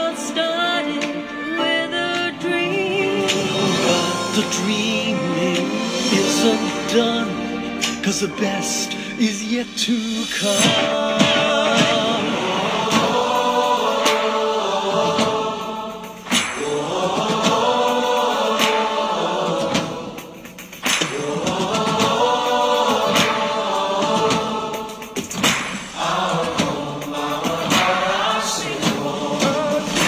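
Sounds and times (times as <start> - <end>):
choir singing held notes: 0.1 - 30.0.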